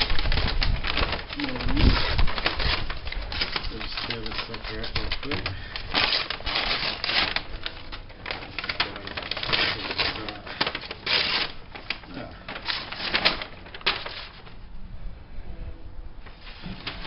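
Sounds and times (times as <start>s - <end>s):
tape tearing off roll: 0.0s - 14.4s
plastic bag rustling: 0.0s - 14.6s, 16.2s - 17.0s.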